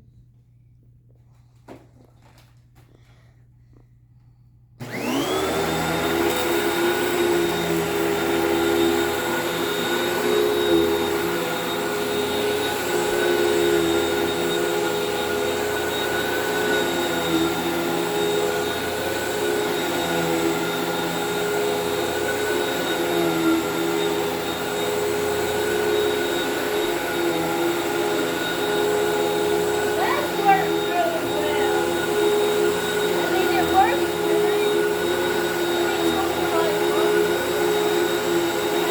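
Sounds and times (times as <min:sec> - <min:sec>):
vacuum cleaner running: 0:04.8 - 0:38.9.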